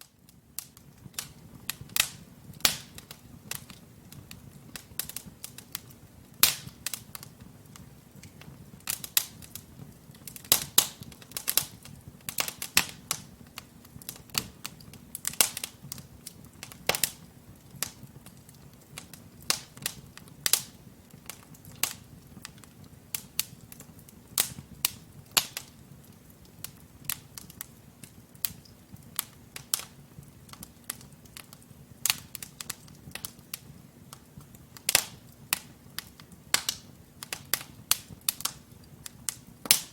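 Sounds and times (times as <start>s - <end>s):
fireplace crackling and popping: 0.0s - 39.9s.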